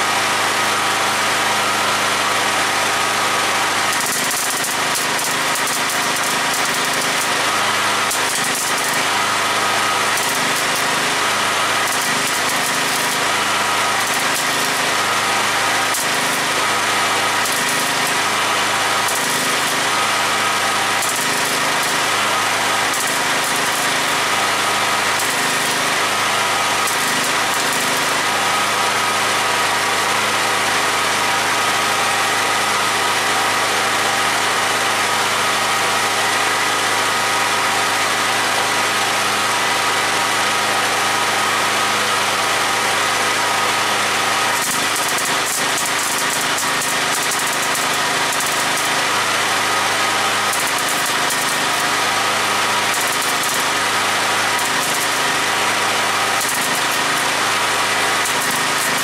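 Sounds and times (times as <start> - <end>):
power tool motor whining: 0.0 - 59.0.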